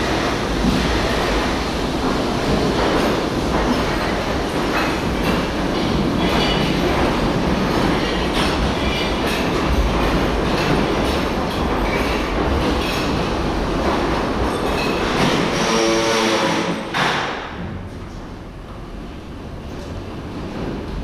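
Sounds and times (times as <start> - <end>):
train wheels rumbling and clicking: 0.0 - 21.0.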